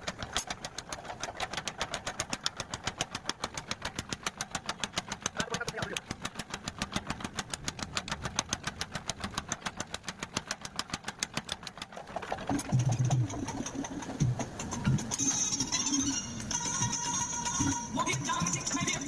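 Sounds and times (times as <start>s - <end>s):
machine knocking rapidly: 0.0s - 15.5s.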